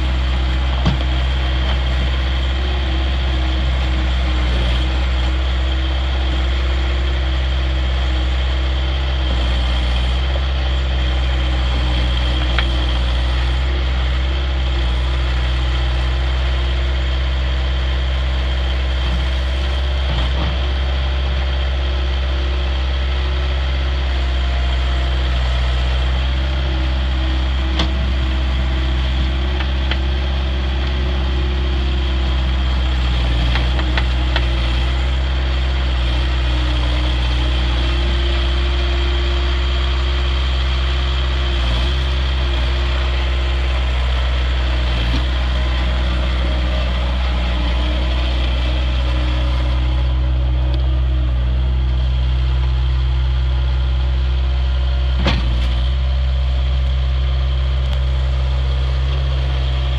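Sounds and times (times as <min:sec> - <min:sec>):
loader diesel engine running: 0:00.0 - 0:59.9.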